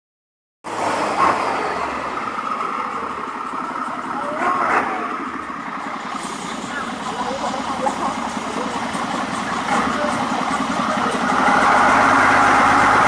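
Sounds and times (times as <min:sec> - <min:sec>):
boat engine running: 0:00.8 - 0:13.0.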